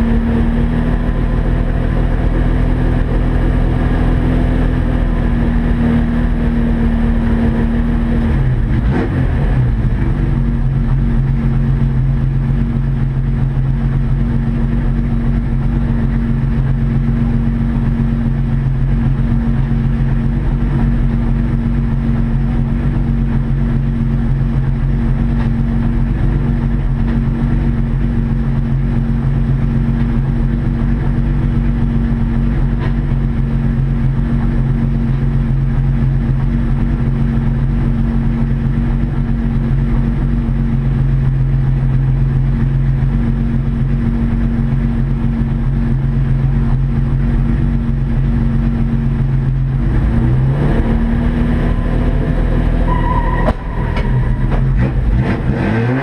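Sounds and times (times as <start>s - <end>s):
race car engine drone: 0.0s - 56.0s
road and tyre noise: 0.0s - 56.0s.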